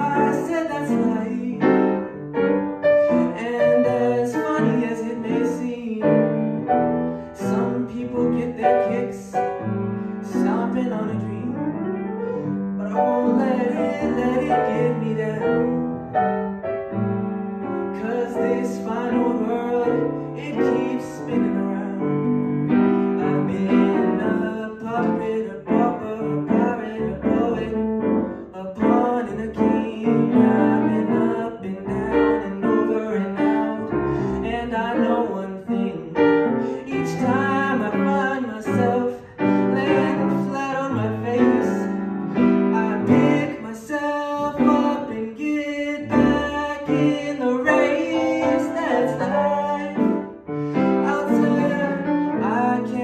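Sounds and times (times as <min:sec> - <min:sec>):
man singing: 0:00.0 - 0:16.4, 0:17.8 - 0:53.0
grand piano accompaniment: 0:00.0 - 0:53.0.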